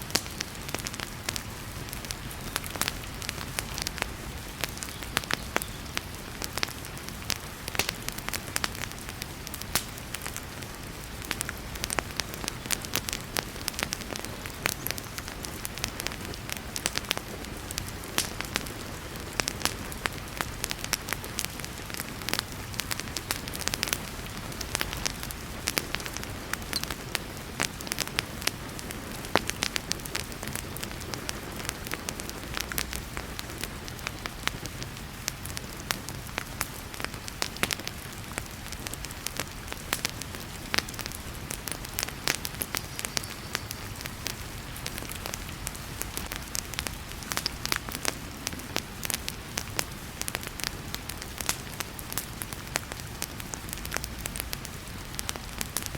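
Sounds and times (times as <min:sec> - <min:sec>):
heavy rain hissing: 0:00.0 - 0:55.9
wood fire crackling and popping: 0:00.0 - 0:55.9.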